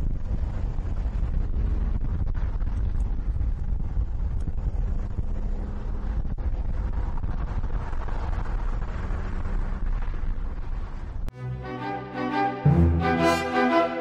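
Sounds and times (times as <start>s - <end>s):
wind buffeting the microphone: 0.0s - 11.3s
car engine rumbling: 0.0s - 11.4s.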